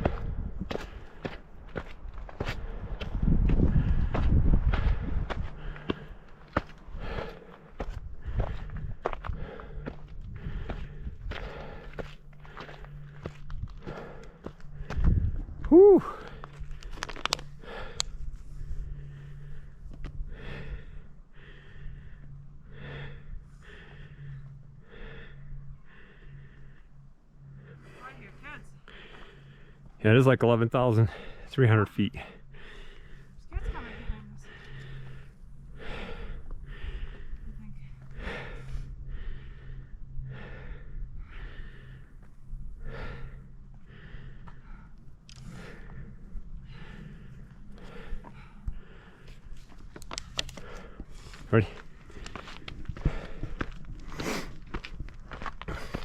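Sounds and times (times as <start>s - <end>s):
person breathing hard: 0.0s - 28.1s, 28.8s - 30.0s, 31.0s - 31.5s, 32.2s - 56.0s.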